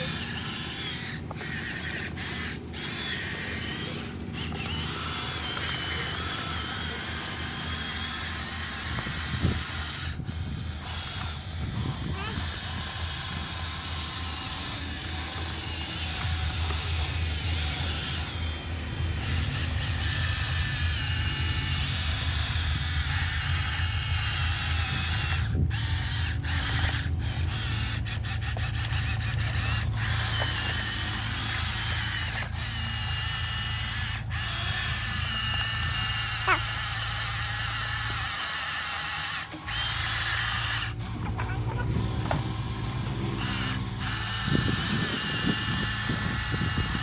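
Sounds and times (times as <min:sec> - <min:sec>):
electric motor whine: 0:00.0 - 0:47.0
low hum: 0:00.0 - 0:47.0.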